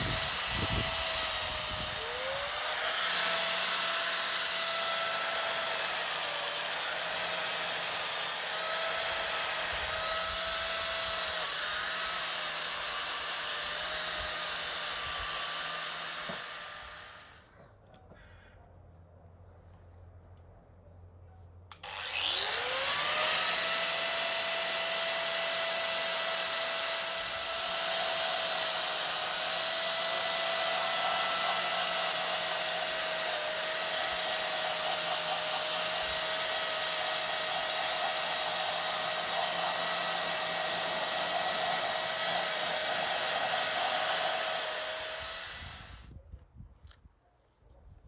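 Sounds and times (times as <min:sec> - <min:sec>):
high-speed power tool grinding: 0:00.0 - 0:17.5, 0:21.7 - 0:46.1.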